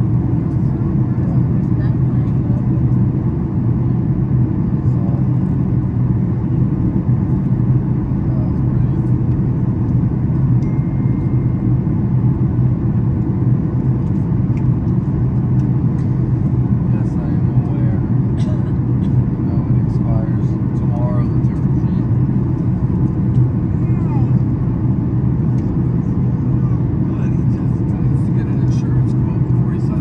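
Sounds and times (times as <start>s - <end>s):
airplane cabin rumble: 0.0s - 30.0s.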